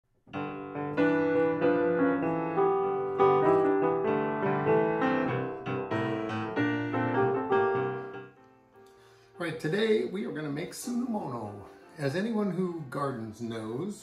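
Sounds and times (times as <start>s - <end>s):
solo piano music: 0.2s - 14.0s.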